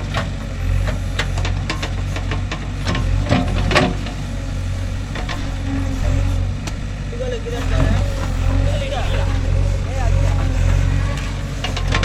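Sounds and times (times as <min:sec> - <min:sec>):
metal clanks and knocks: 0:00.0 - 0:04.2, 0:05.0 - 0:06.8, 0:07.6 - 0:12.0
diesel engine running: 0:00.0 - 0:12.0.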